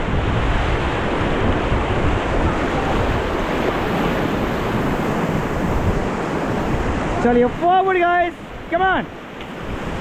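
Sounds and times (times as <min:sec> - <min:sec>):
whitewater rushing: 0:00.0 - 0:10.0
wind buffeting microphone: 0:00.0 - 0:10.0.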